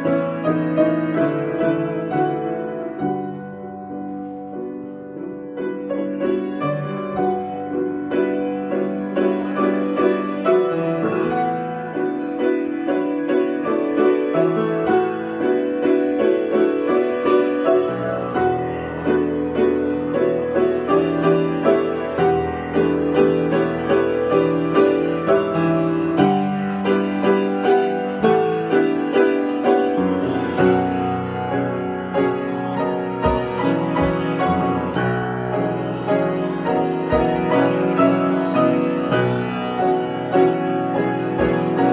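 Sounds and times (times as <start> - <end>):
solo piano improvisation: 0.0 - 41.9.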